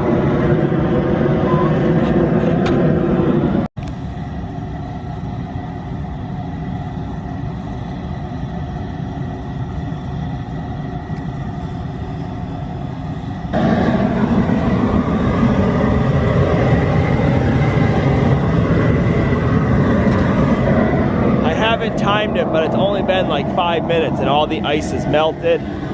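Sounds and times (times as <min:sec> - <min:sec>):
propane burner running: 0:00.0 - 0:25.9.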